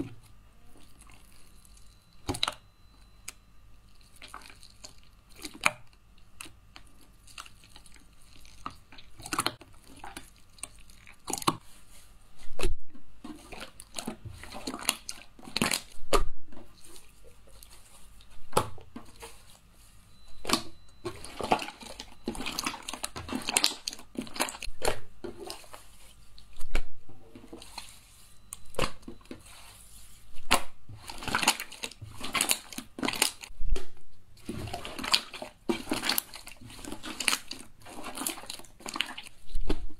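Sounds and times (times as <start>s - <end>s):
slime squelching and crackling: 0.6s - 2.6s, 3.2s - 11.8s, 12.4s - 18.4s, 20.4s - 39.9s.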